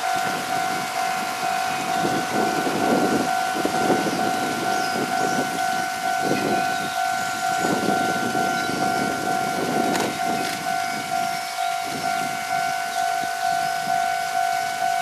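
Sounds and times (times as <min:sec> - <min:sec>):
level crossing alarm ringing: 0:00.0 - 0:15.0.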